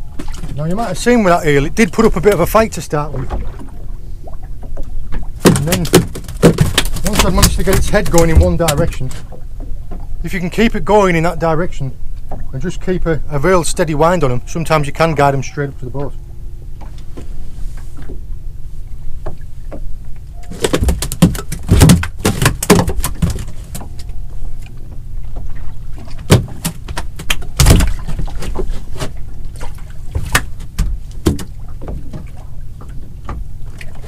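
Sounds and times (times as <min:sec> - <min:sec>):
knocks and clattering on boat: 0:00.0 - 0:15.0, 0:15.9 - 0:18.3, 0:18.9 - 0:34.0.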